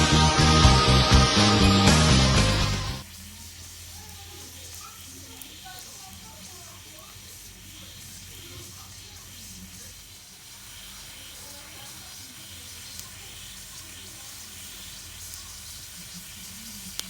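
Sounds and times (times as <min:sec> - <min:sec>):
steady hissing rush: 0:00.0 - 0:17.0.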